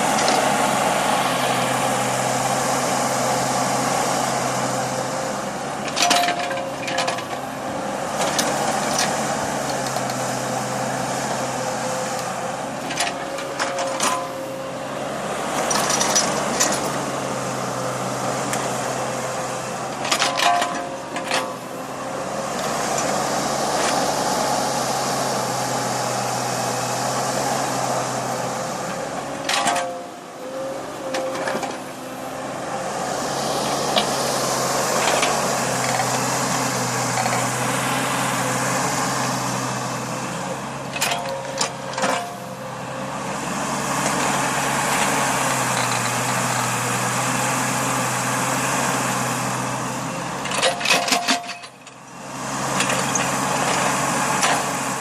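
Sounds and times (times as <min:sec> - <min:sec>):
backhoe engine running: 0:00.0 - 0:55.0.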